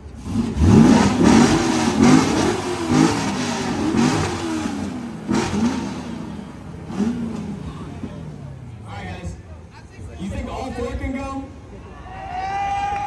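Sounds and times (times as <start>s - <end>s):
car engines revving: 0.0s - 11.9s.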